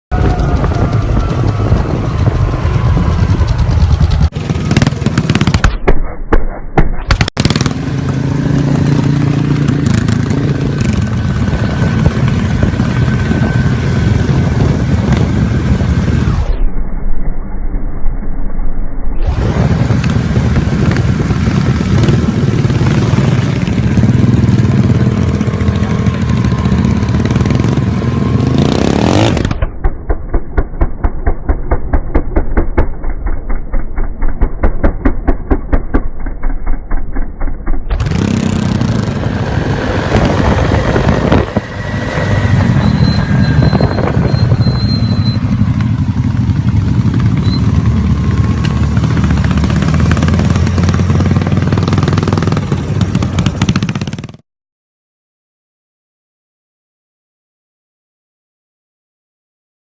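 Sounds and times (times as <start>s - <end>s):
motorcycle engines running: 0.1s - 5.8s, 7.1s - 16.6s, 19.3s - 54.4s.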